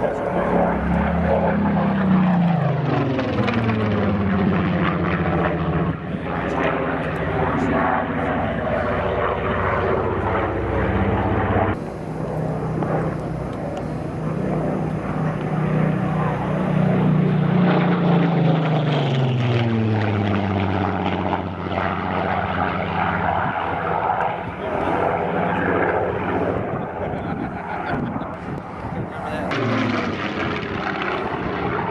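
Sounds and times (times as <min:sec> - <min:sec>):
propeller aircraft engine: 0:00.0 - 0:31.9.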